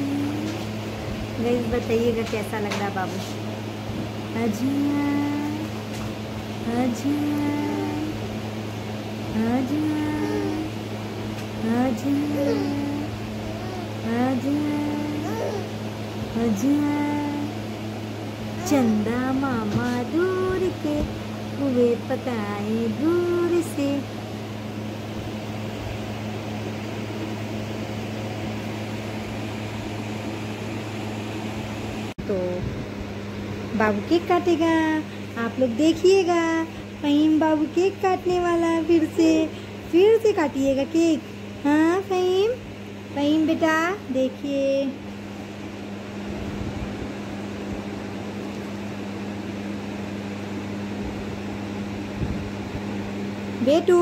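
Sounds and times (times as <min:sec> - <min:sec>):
electric fan running: 0:00.0 - 0:54.0
low electrical hum: 0:00.0 - 0:54.0.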